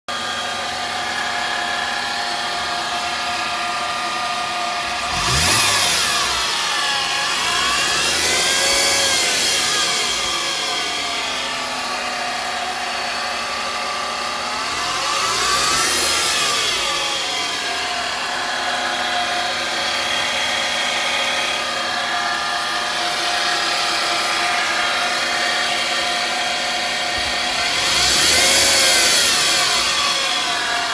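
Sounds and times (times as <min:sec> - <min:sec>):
car engine revving: 0:00.1 - 0:30.9
high-pitched alternator drone: 0:00.1 - 0:30.9.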